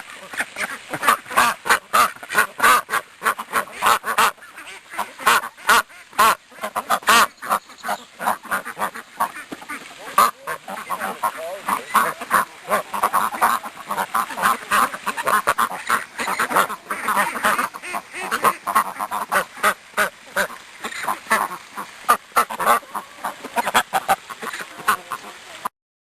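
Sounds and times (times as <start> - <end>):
ducks quacking: 0.0 - 25.7.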